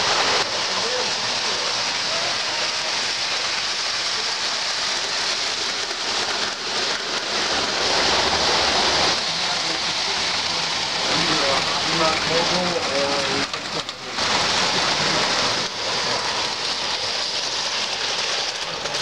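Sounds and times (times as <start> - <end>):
model locomotive passing: 0.0 - 19.0
model train wheels rolling on rails: 0.0 - 19.0.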